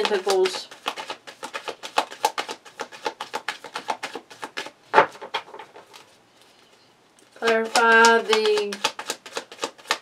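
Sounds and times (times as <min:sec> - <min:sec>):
cards being shuffled: 0:00.0 - 0:06.2, 0:07.4 - 0:10.0.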